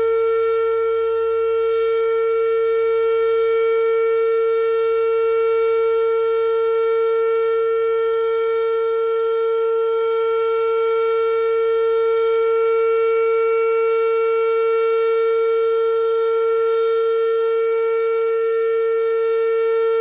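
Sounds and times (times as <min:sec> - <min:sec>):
outdoor warning siren steady tone: 0:00.0 - 0:20.0.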